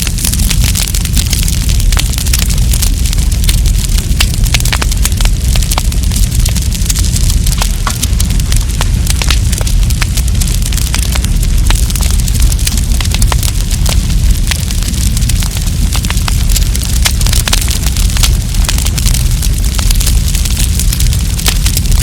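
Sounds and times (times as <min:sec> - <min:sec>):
campfire crackling and popping: 0:00.0 - 0:22.0
low rumble: 0:00.0 - 0:22.0.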